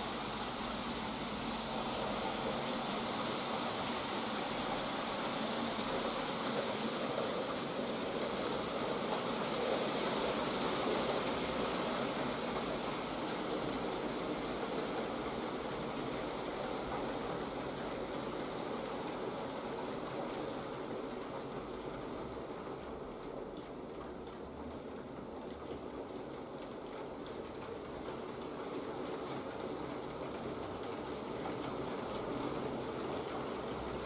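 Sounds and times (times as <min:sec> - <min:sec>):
model train wheels rumbling on rails: 0:00.0 - 0:34.0.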